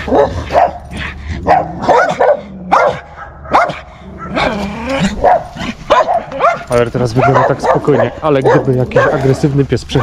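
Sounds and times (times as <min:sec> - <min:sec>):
dog barking: 0:00.0 - 0:04.5, 0:05.2 - 0:09.6.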